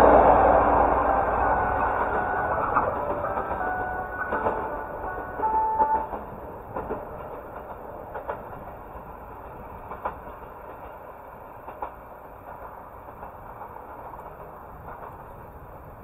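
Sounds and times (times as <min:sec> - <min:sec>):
train wheels clicking on rails: 0:00.0 - 0:16.0.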